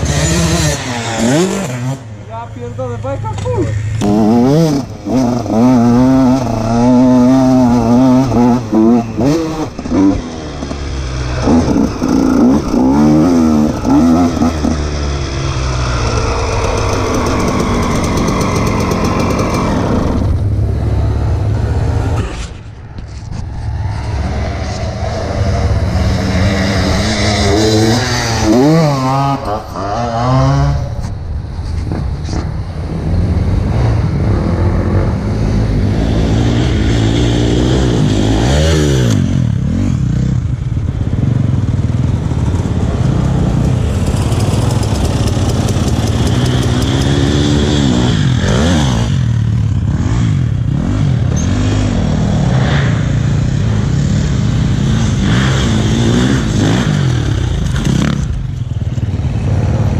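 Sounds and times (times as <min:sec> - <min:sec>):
dirt bike engine revving: 0:00.0 - 0:31.2, 0:32.2 - 0:59.9.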